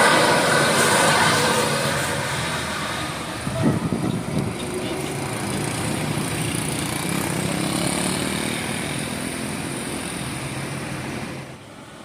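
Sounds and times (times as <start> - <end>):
bus diesel engine under load: 0.0 - 12.0
road noise: 0.0 - 12.0.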